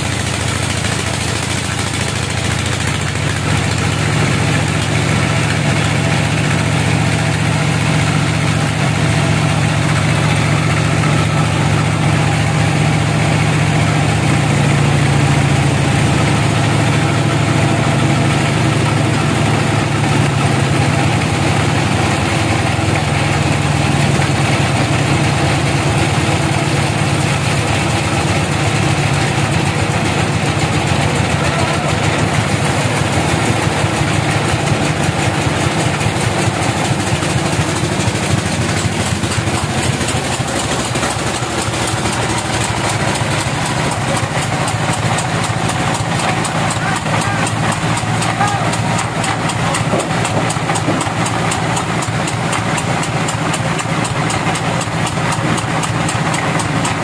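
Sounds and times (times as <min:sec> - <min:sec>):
band sawmill drone: 0:00.0 - 0:57.0.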